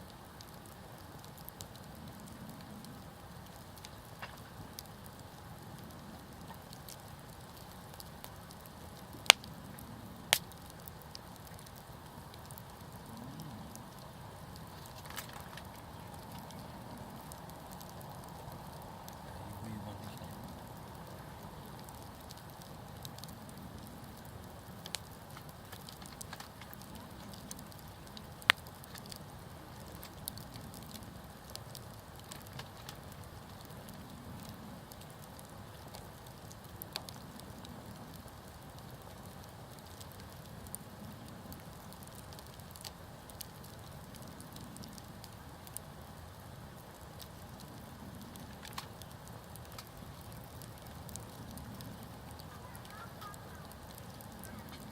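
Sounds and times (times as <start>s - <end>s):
campfire flames rushing: 0.0s - 54.9s
fire crackles and pops: 0.0s - 54.9s.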